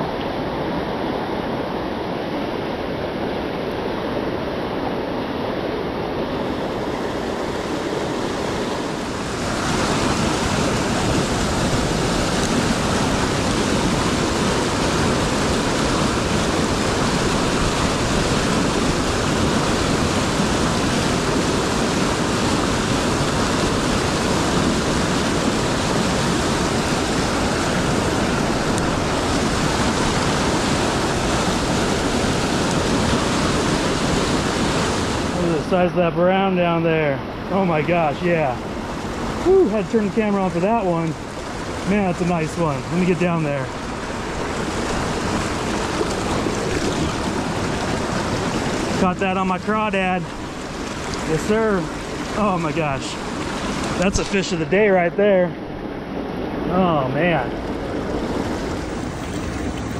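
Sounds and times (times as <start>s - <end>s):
rapids rushing among boulders: 0.0s - 59.9s.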